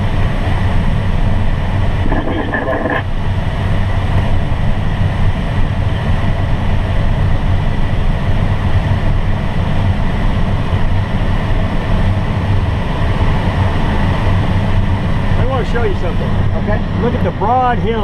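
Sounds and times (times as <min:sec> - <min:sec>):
airflow rushing around cockpit: 0:00.0 - 0:18.0.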